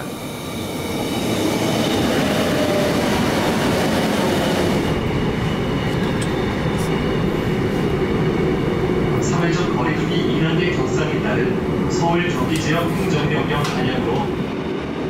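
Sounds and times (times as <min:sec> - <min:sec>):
train running noise inside carriage: 0:00.0 - 0:15.0.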